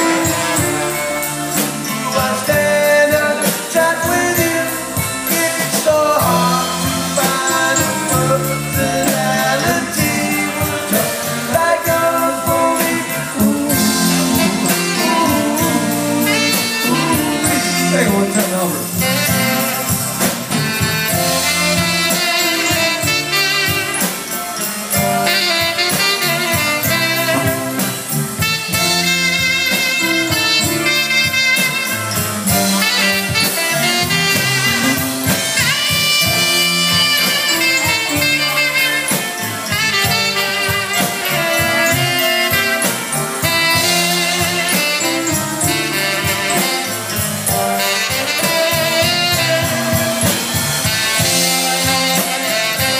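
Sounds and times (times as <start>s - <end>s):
live band playing: 0.0s - 52.9s
saxophone and horns: 0.0s - 52.9s.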